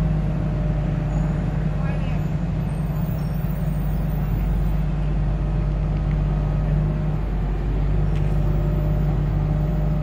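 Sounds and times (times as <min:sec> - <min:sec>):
heavy diesel engine droning: 0:00.0 - 0:10.0.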